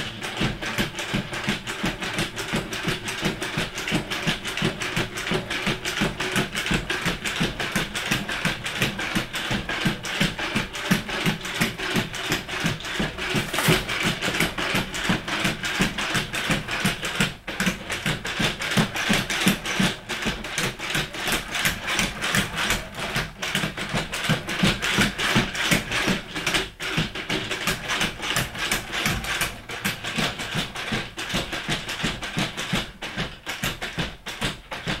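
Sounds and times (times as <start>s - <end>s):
robot feet tapping wooden floor: 0.0s - 35.0s.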